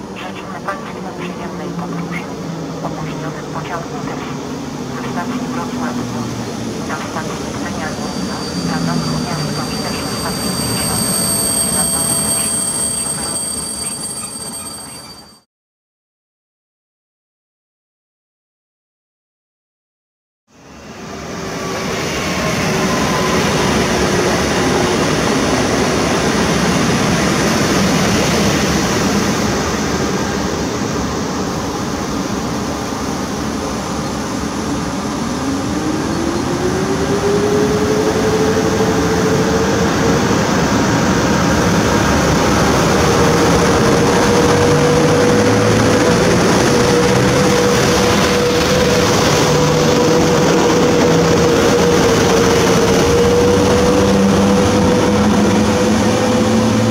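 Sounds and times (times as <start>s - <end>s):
electric locomotive humming: 0.0s - 15.4s, 20.6s - 56.9s
rising locomotive whine: 0.0s - 15.4s, 20.5s - 56.9s
train carriages rolling past: 0.0s - 15.4s, 20.8s - 56.9s.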